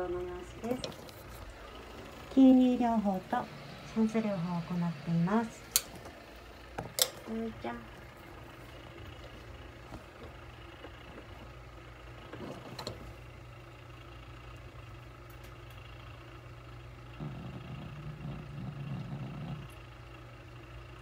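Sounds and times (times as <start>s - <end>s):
low uneven rumble: 0.0s - 21.0s
machine hum: 0.0s - 21.0s.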